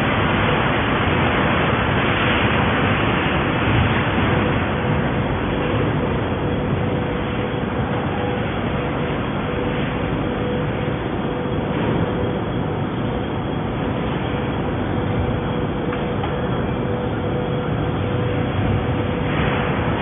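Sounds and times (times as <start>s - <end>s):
faint steady hum: 0.0s - 20.0s
roller conveyor running: 0.0s - 20.0s.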